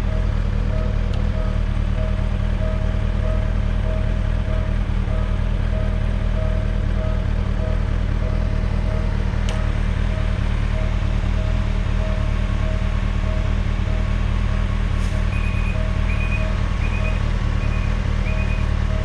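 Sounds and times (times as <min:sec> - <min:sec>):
level-crossing warning bell ringing: 0:00.0 - 0:19.0.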